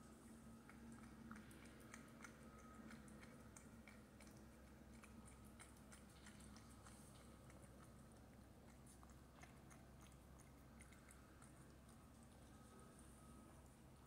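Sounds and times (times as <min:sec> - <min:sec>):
cat chewing wet food: 0:00.0 - 0:14.0.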